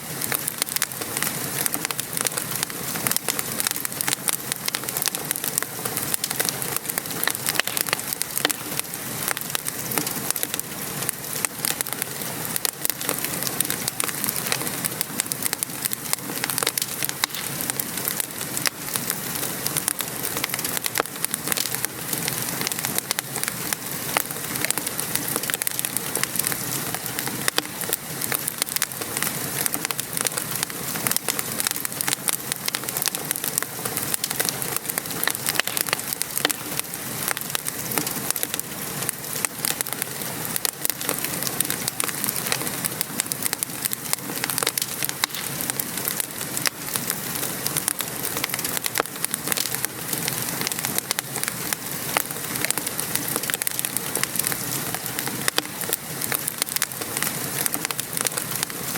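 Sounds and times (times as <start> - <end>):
rain pattering: 0.0 - 58.9
wood fire crackling: 0.0 - 58.9.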